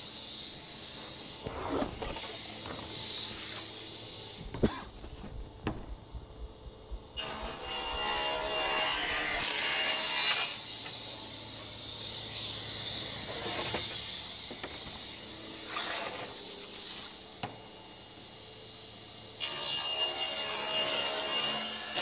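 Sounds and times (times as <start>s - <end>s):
table saw cutting plywood: 0.0s - 5.4s, 7.2s - 17.5s, 19.4s - 22.0s.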